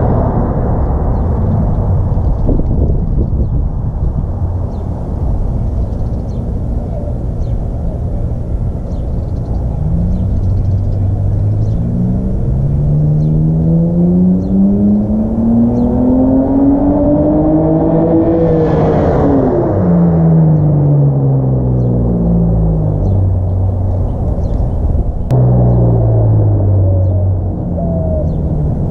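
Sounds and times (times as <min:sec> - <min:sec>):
car exhaust accelerating: 0:00.0 - 0:28.9.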